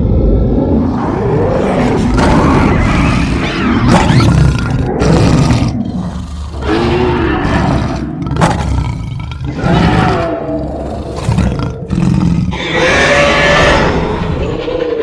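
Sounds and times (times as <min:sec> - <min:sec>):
monster roars and growls: 0:00.0 - 0:15.0.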